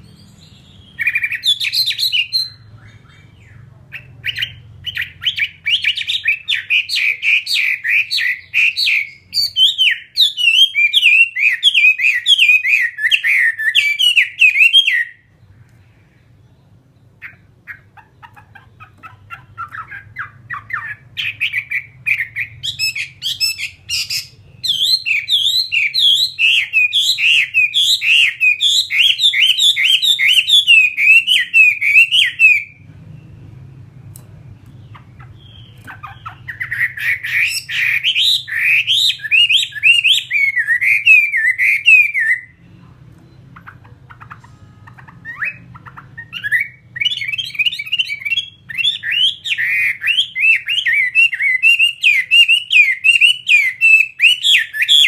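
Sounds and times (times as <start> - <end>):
bird singing whistled song: 0.0 - 15.3, 19.3 - 33.6, 34.7 - 55.0.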